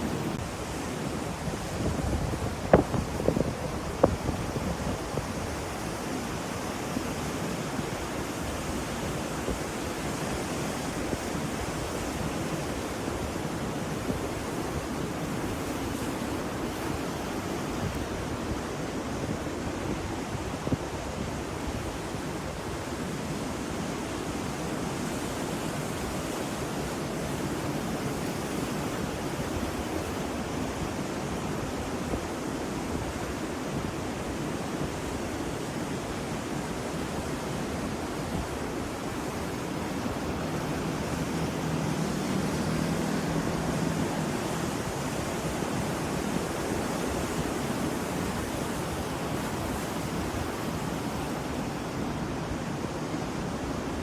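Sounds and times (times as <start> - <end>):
ocean waves washing on shore: 0.0 - 54.0.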